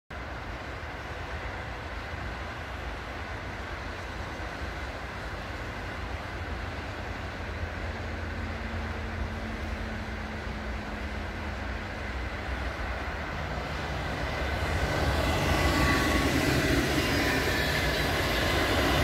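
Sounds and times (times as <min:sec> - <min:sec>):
distant motorway traffic: 0:00.2 - 0:19.0
electric train hum: 0:00.2 - 0:19.0.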